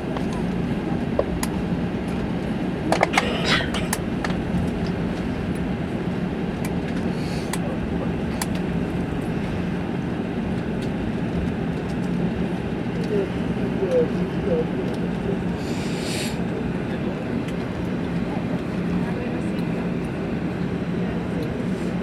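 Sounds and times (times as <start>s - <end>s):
aircraft cabin rumble and hum: 0.0s - 22.0s.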